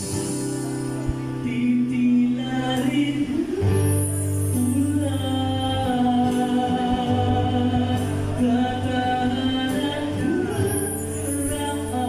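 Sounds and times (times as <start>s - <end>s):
live acoustic band playing: 0.0s - 12.0s.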